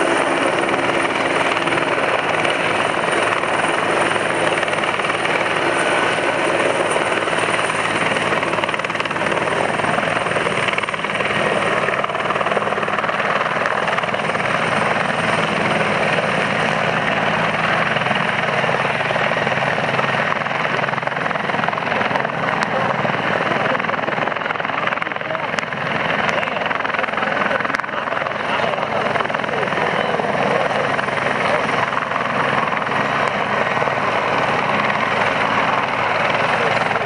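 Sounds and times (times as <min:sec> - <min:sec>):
helicopter hovering: 0:00.0 - 0:37.0.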